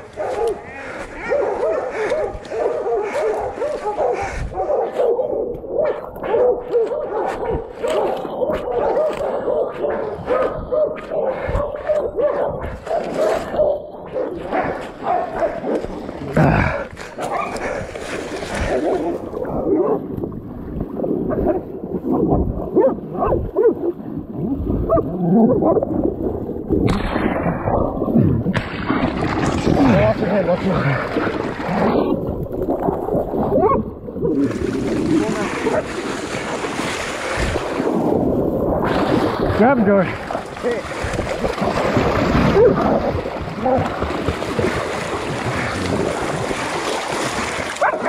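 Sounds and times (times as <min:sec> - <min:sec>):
water splashing: 0:00.0 - 0:48.0.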